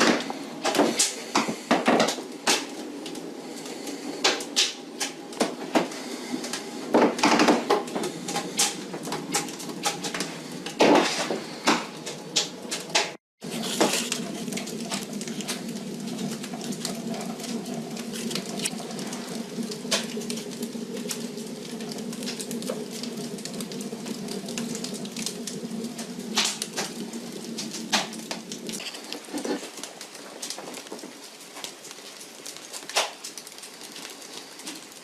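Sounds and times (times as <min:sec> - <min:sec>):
fire draft humming: 0:00.0 - 0:35.0
wood fire crackling and popping: 0:00.0 - 0:35.0.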